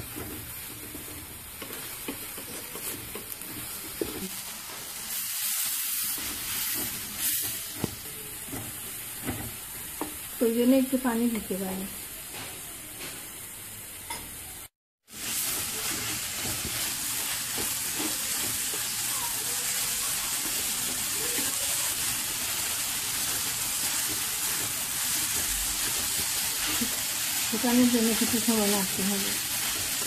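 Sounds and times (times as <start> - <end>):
spatula stirring: 0.0 - 10.2, 15.2 - 30.0
fish sizzling in a pan: 0.0 - 30.0.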